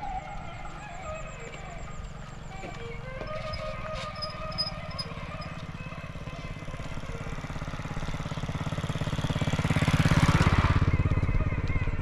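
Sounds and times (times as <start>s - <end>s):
small engine puttering past: 0.0s - 12.0s.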